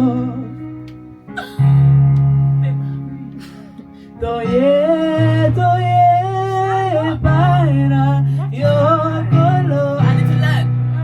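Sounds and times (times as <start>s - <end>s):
sustained low chords: 0.0s - 11.0s.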